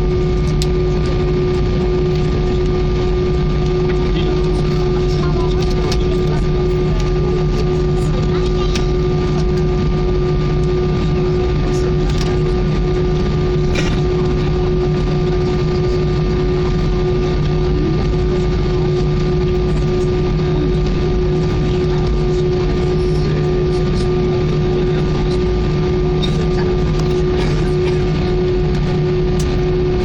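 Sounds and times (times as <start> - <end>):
jet engines humming and whining: 0.0 - 30.0.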